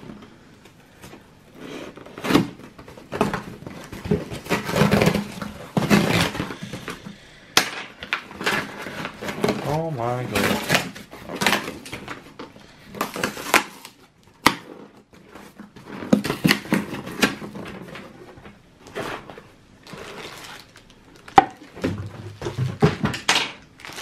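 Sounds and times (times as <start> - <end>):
cardboard rustling and ripping: 1.1 - 7.2, 8.2 - 24.0.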